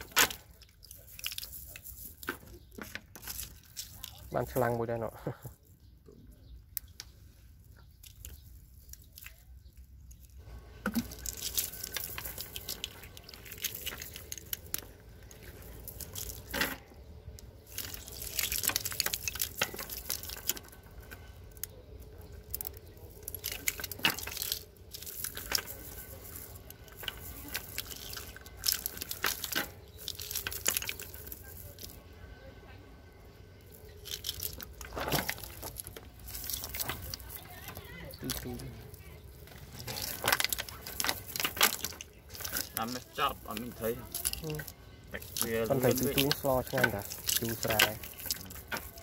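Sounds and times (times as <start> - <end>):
wet net rustling: 7.5 - 32.0, 33.6 - 49.0.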